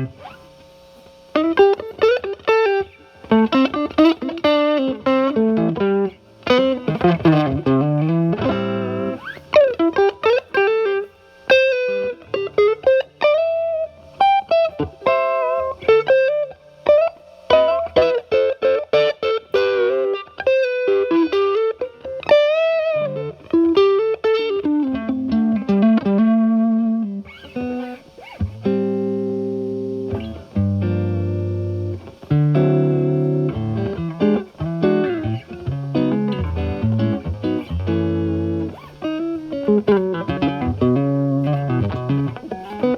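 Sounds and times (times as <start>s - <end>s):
overdriven electric guitar: 0.0s - 42.9s.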